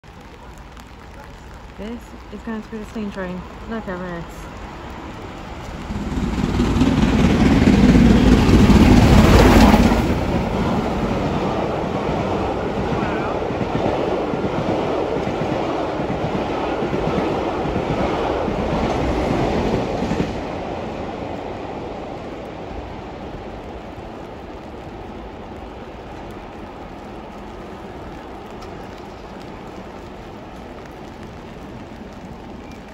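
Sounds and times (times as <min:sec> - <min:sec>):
low rumble of a train: 0:00.0 - 0:32.9
rain hiss: 0:00.0 - 0:32.9
steam locomotive passing: 0:00.5 - 0:32.9.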